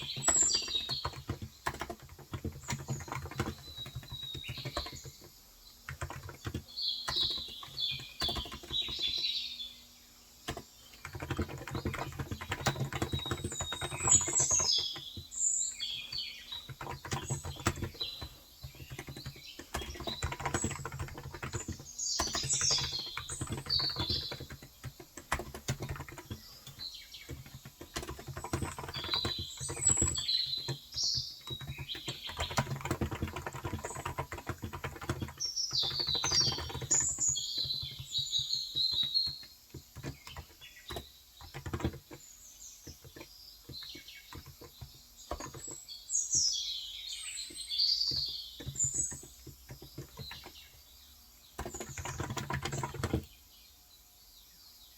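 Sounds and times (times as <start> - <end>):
soft keyboard keystrokes: 0.0 - 9.2, 10.4 - 45.9, 47.4 - 50.9, 51.5 - 53.4
small birds chirping: 0.0 - 54.9.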